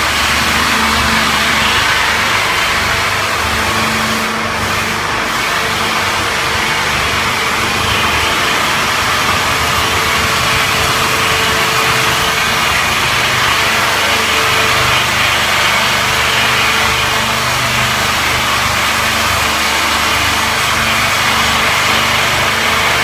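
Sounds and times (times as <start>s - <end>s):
log-squaring machine running: 0.0s - 23.0s.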